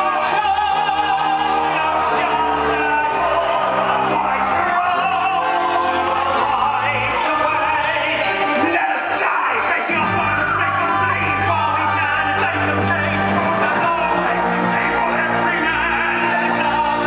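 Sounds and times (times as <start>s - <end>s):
cast singing: 0.0s - 17.0s
theatre orchestra playing dramatic music: 0.0s - 17.0s.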